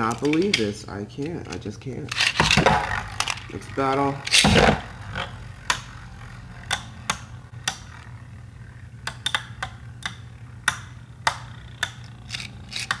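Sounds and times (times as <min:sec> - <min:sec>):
plastic spinning top clicks: 0:00.0 - 0:08.2, 0:09.0 - 0:13.0.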